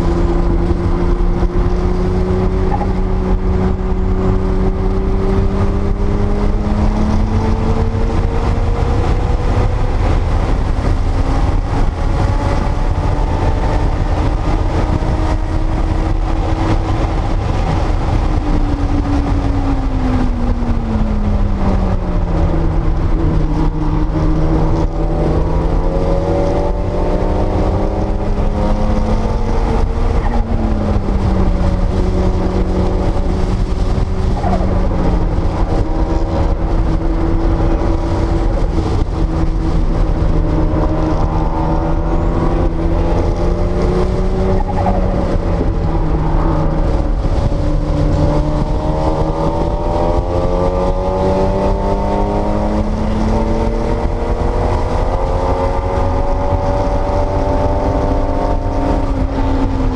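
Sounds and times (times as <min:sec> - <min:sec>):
heavy low rumble: 0:00.0 - 0:59.9.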